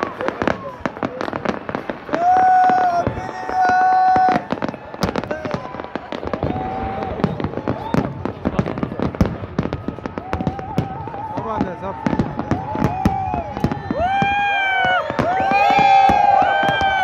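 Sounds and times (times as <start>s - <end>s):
crowd cheering: 0.0s - 17.0s
fireworks bangs and crackles: 0.0s - 17.0s.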